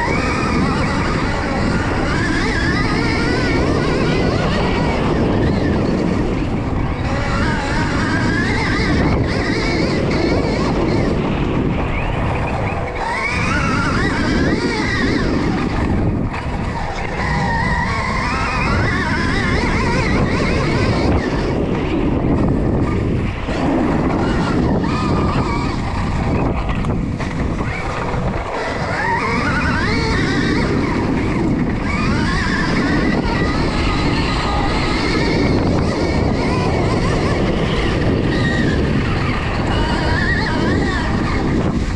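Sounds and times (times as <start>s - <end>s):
electric motorbike motor whine: 0.0s - 41.9s
steady low rush: 0.0s - 41.9s
wind and terrain noise: 0.0s - 41.9s.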